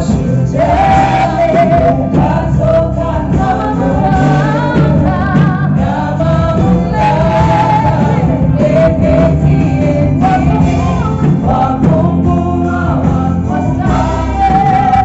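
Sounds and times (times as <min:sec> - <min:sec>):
group of voices singing: 0:00.0 - 0:15.0
instrumental accompaniment: 0:00.0 - 0:15.0.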